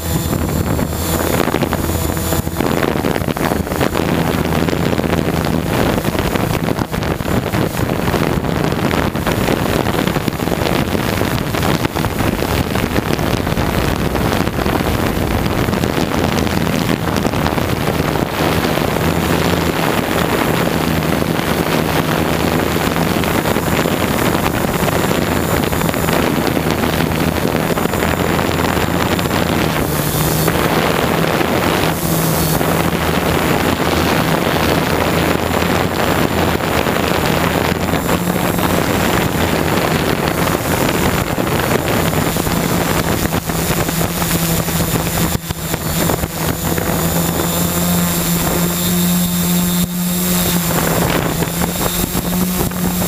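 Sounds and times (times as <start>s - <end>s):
drone motors humming: 0.0s - 53.0s
wind buffeting microphone: 0.0s - 53.0s.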